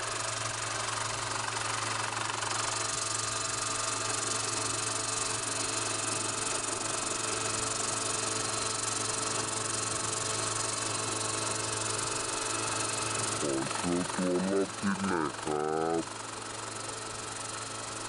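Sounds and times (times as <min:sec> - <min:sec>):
model helicopter running: 0:00.0 - 0:18.0.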